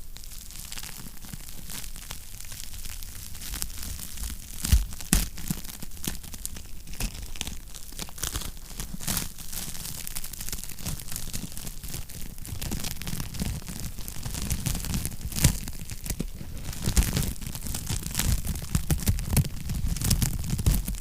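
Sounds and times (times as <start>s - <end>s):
low rumble of fire: 0.0s - 21.0s
wood fire crackling and popping: 0.0s - 21.0s.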